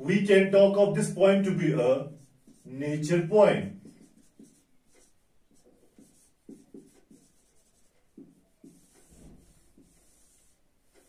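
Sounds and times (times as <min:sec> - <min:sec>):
marker pen on whiteboard: 0:00.0 - 0:11.0.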